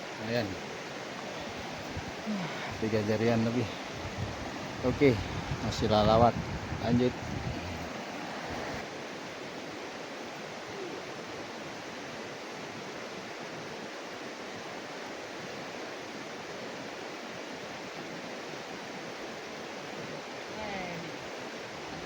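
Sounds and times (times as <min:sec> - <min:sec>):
river current rushing: 0:00.0 - 0:22.0.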